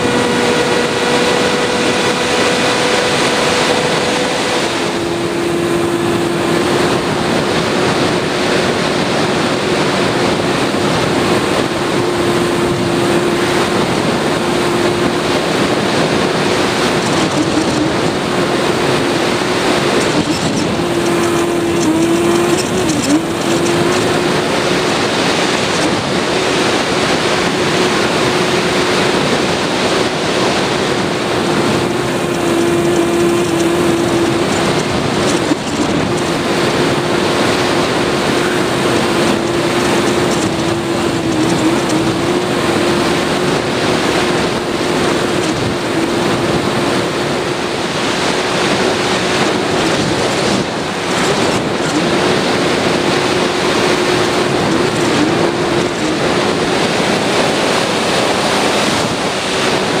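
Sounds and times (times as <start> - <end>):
electric motor and propeller hum: 0.0 - 60.0
wind rush: 0.0 - 60.0.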